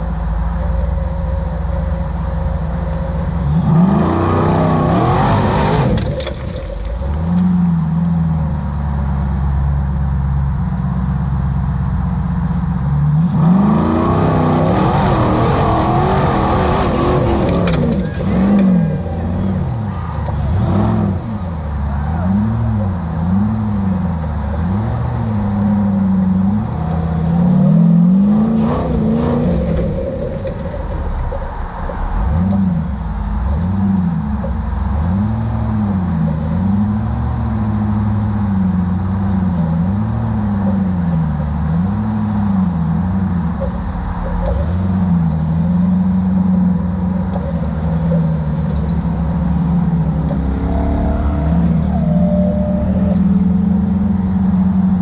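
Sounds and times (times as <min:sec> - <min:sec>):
buggy engine revving: 0:00.0 - 0:55.0.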